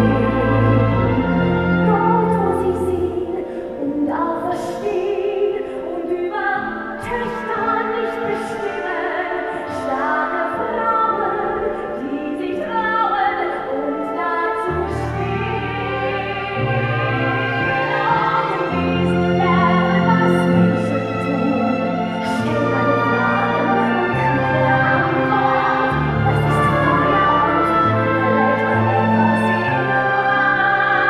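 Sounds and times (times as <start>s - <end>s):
symphony orchestra strings: 0.0s - 31.0s
woman singing: 0.0s - 31.0s.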